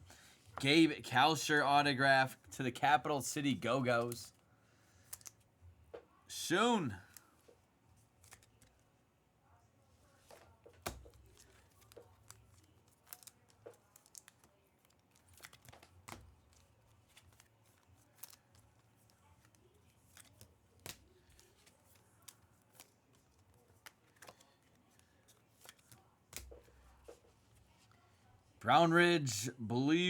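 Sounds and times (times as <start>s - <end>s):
trading cards clicking and rustling: 0.4s - 4.4s, 5.0s - 5.4s, 6.0s - 8.9s, 10.2s - 28.0s.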